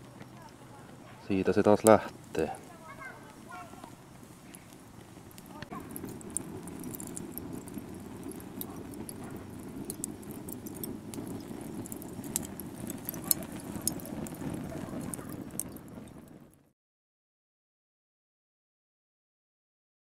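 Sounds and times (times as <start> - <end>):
fire crackling and popping: 0.0 - 16.7.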